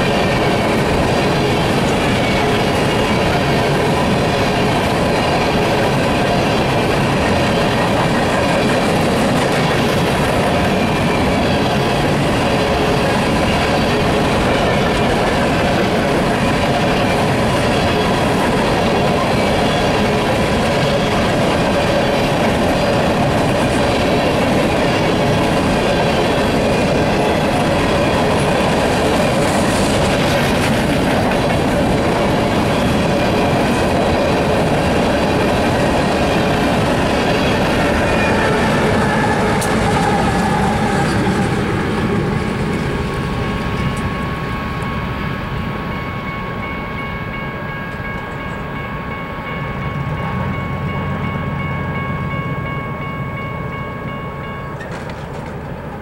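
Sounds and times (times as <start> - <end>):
steel wheels clattering on rails: 0.0 - 56.0.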